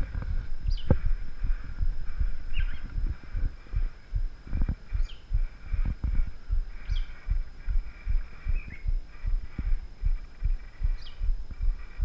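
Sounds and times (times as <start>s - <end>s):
birds chirping: 0.0s - 12.0s
muffled thumps on microphone: 0.0s - 12.0s.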